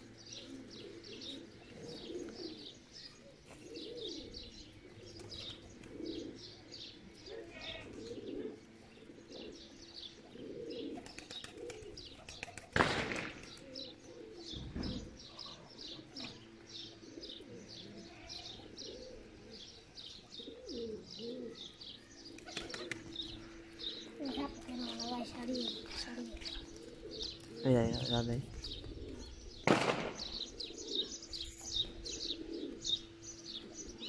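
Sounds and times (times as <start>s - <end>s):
pigeons cooing: 0.0s - 34.0s
small birds chirping: 0.0s - 34.0s.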